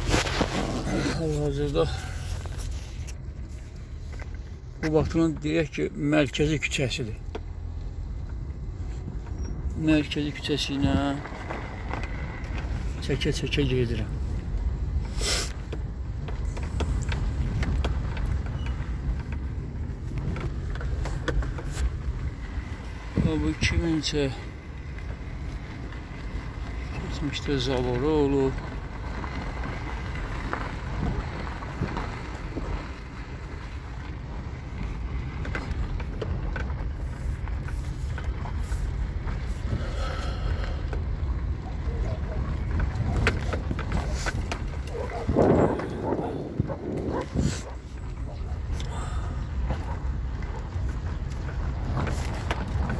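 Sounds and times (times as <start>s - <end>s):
engine and tyre rumble: 0.0s - 52.9s.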